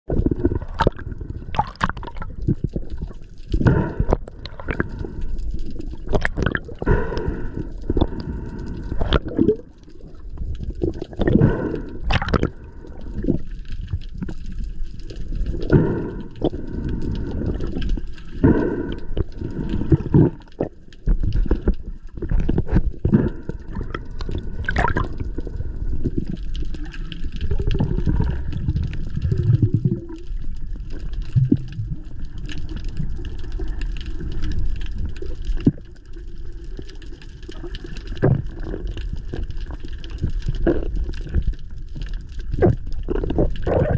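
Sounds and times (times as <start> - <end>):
exhaled bubbles rumbling: 0.1 - 43.9.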